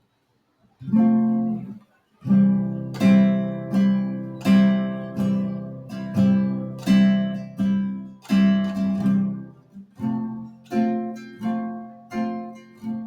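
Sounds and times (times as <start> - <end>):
acoustic guitar strumming chords: 0.8 - 13.0.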